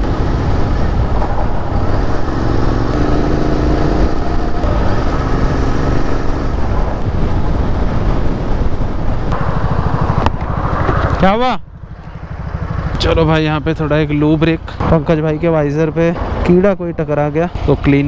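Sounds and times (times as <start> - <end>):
motorcycle engine cruising: 0.0 - 16.6
wind and road noise: 0.0 - 18.0.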